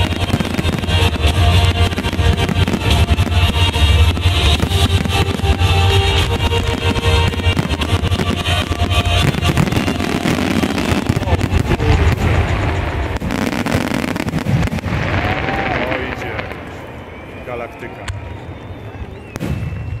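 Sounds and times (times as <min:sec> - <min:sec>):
fireworks bursting: 0:00.0 - 0:17.4, 0:18.0 - 0:20.0.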